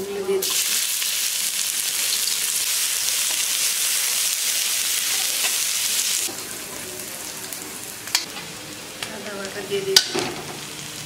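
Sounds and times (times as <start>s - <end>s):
onions sizzling in hot oil: 0.4s - 11.0s.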